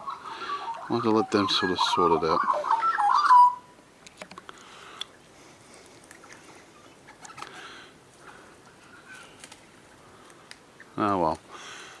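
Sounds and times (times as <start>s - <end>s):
birds chirping: 0.0s - 3.8s, 4.5s - 12.0s
background hiss: 0.0s - 12.0s.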